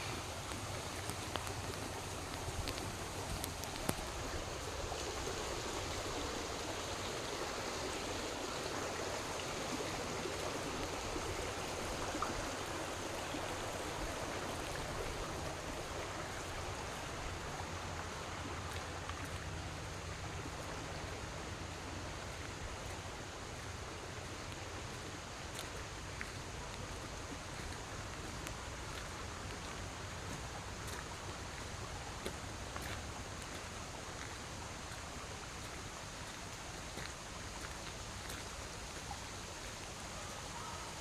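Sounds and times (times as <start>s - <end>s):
water running over rocks: 0.0s - 41.0s.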